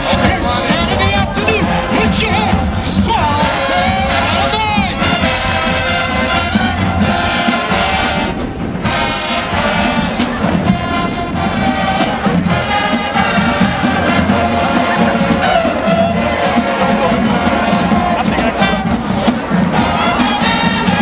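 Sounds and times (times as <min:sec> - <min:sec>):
drums: 0:00.0 - 0:21.0
marching band brass playing: 0:00.0 - 0:21.0.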